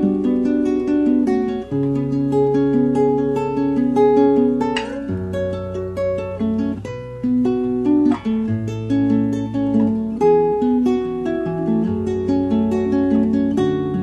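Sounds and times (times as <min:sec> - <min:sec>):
guitar instrumental: 0:00.0 - 0:14.0.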